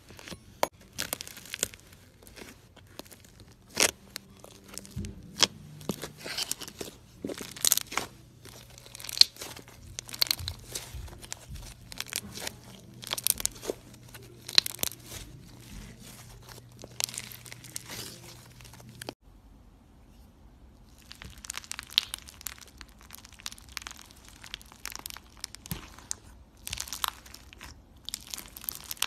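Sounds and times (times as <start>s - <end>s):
slime crackling and popping: 0.1s - 19.2s, 20.8s - 29.0s.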